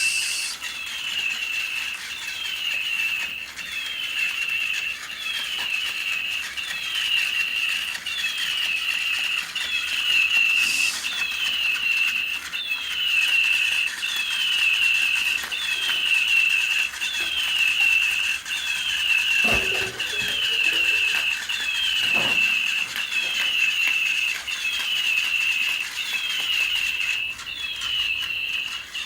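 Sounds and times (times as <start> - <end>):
electronic toy bird chirping: 0.0 - 29.0.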